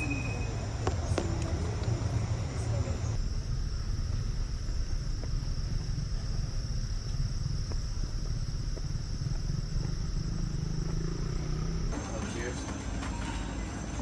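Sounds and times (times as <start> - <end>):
constant low rumble: 0.0 - 14.0
insects droning: 0.0 - 14.0.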